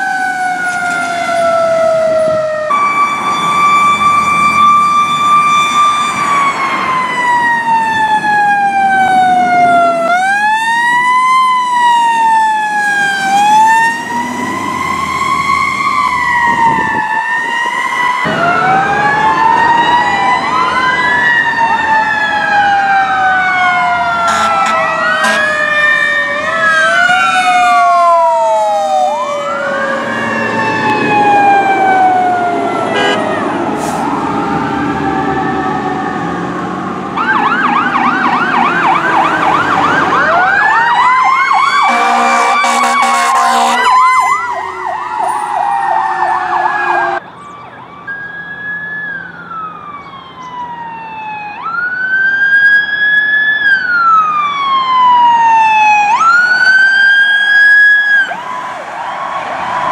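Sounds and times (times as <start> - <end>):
fire engine sirens wailing: 0.0 - 59.9.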